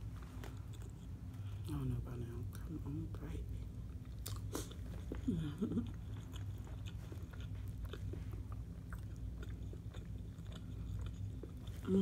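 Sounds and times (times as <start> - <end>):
person chewing crunchy sandwich: 0.1 - 1.7, 3.8 - 12.0.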